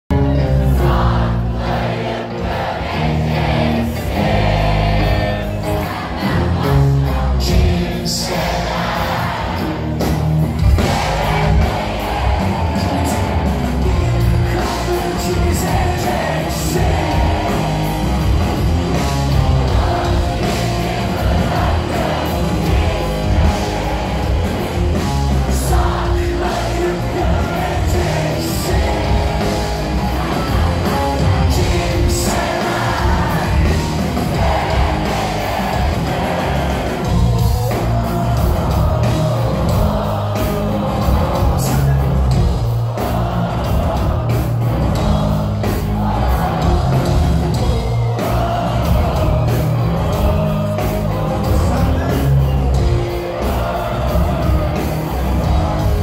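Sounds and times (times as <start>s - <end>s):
live rock band playing: 0.1s - 56.0s
lead vocal singing: 0.2s - 56.0s.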